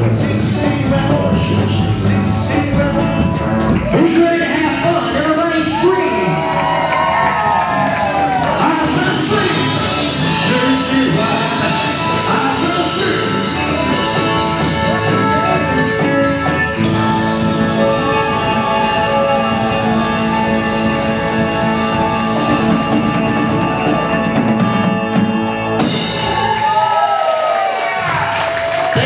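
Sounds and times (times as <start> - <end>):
steady drum beat: 0.0 - 27.3
rock band playing: 0.0 - 29.0.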